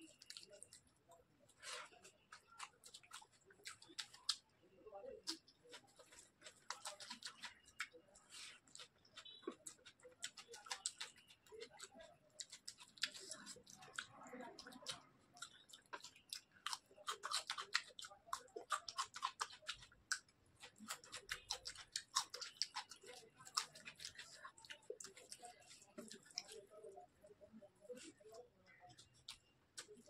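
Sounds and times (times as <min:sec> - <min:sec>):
person chewing with open mouth: 0:00.0 - 0:04.5, 0:05.1 - 0:30.0.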